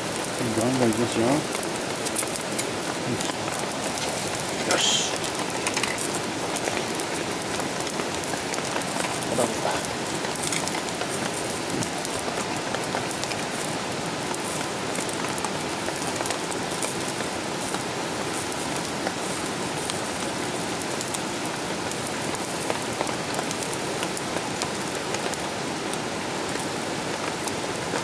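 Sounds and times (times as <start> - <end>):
meat sizzling on grill: 0.0 - 28.0.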